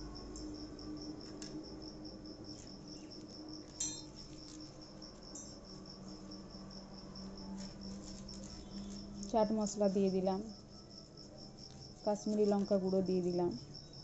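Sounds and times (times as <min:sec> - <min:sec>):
cricket chirping: 0:00.0 - 0:14.0
faint low hum: 0:00.0 - 0:14.0.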